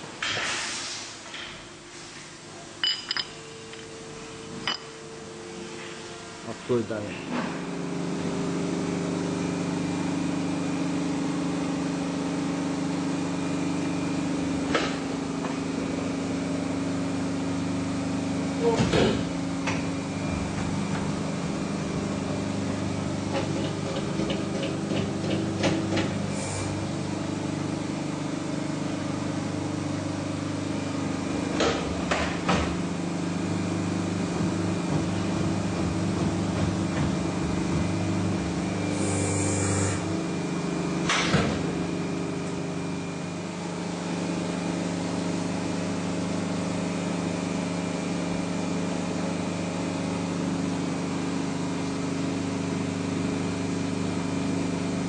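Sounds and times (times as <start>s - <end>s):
hydraulic unit humming: 2.5s - 55.0s.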